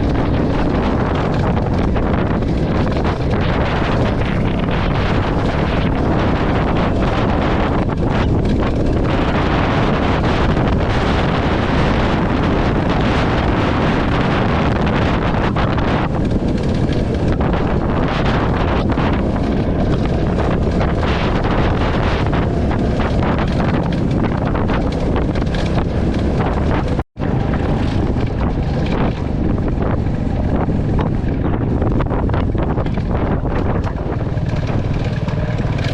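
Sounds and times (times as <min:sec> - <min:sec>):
motorcycle engine running: 0:00.0 - 0:35.9
wind buffeting microphone: 0:00.0 - 0:35.9.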